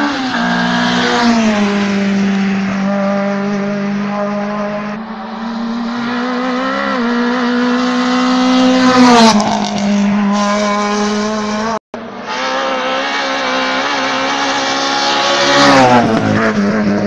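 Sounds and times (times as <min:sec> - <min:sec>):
race car engines passing at high revs: 0:00.0 - 0:17.0.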